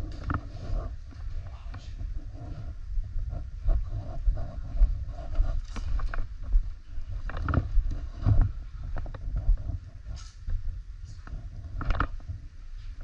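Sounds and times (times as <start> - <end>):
footsteps thudding on microphone: 0.0 - 13.0.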